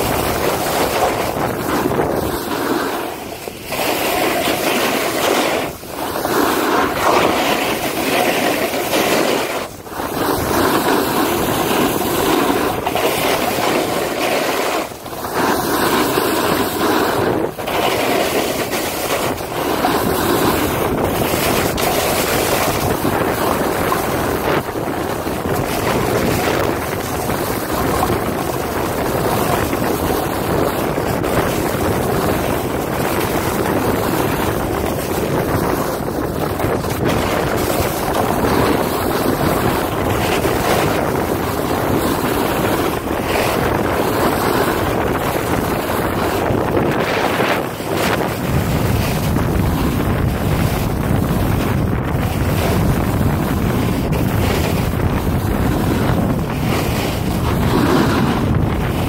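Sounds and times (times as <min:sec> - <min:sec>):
sliding over snow: 0:00.0 - 0:59.0
wind on microphone: 0:00.0 - 0:59.0.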